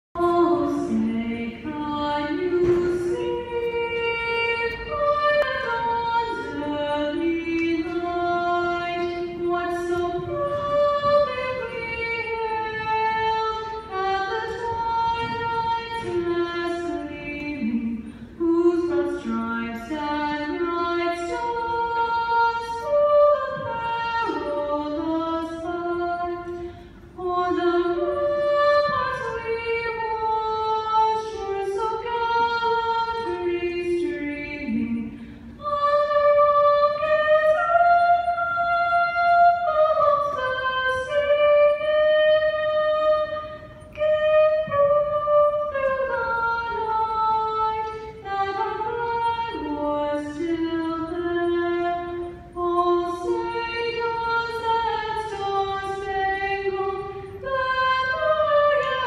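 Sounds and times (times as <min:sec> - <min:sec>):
girl singing into microphone: 0:00.2 - 0:59.0.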